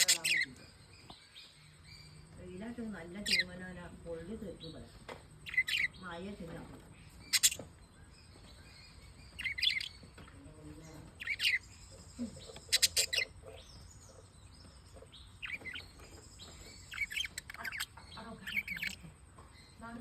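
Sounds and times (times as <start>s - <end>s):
parrots chirping: 0.0s - 2.3s, 3.0s - 4.8s, 5.4s - 20.0s.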